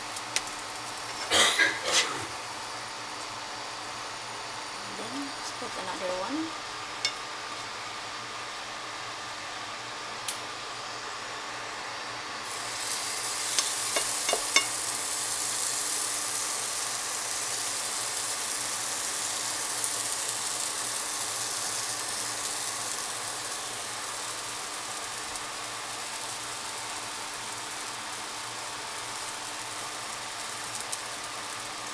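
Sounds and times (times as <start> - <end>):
batter sizzling in hot oil: 0.0 - 31.9.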